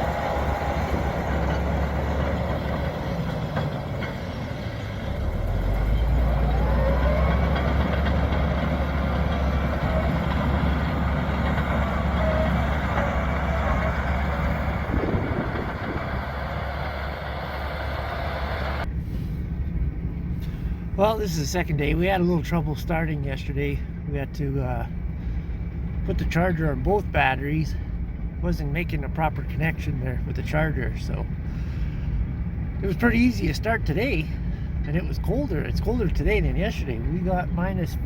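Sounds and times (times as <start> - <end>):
diesel engine droning: 0.0 - 38.0.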